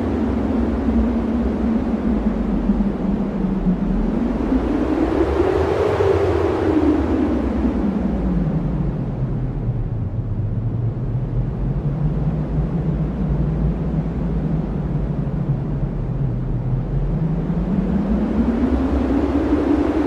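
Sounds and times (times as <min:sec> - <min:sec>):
wind roaring: 0:00.0 - 0:20.0.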